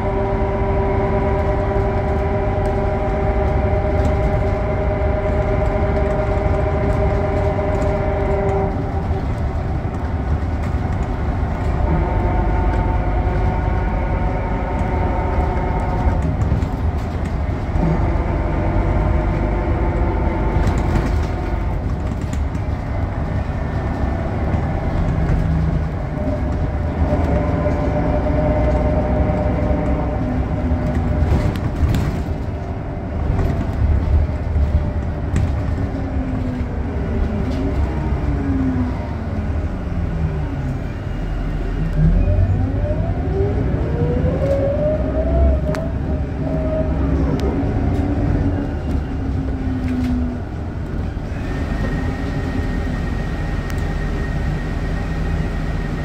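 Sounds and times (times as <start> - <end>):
bus diesel engine: 0.0 - 56.0
low road rumble: 0.0 - 56.0.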